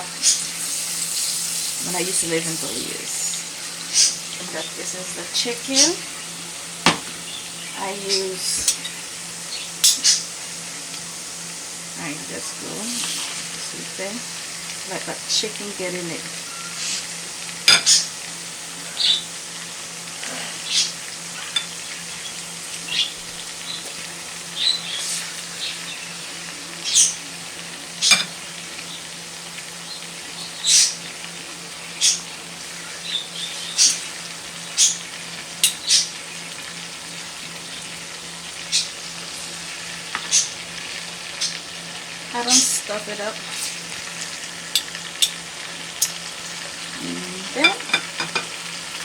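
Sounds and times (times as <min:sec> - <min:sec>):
chicken frying in oil: 0:00.0 - 0:49.0.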